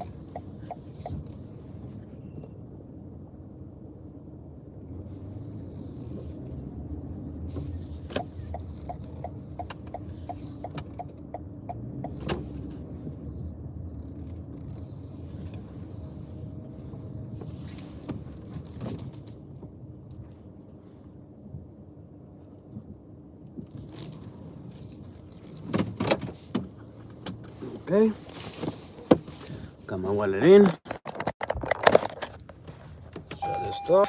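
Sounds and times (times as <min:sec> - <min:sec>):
car engine low rumble: 0:00.0 - 0:34.0.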